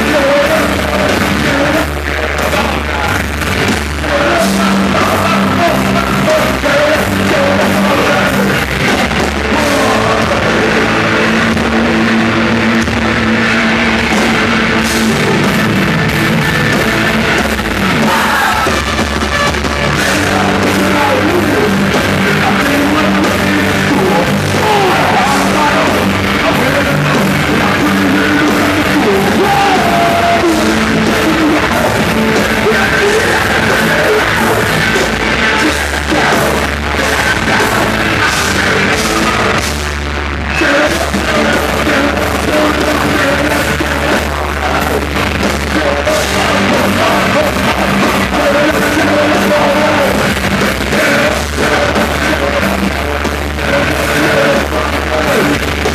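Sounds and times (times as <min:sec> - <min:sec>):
live rock band playing: 0:00.0 - 0:55.9
person singing: 0:00.0 - 0:55.9.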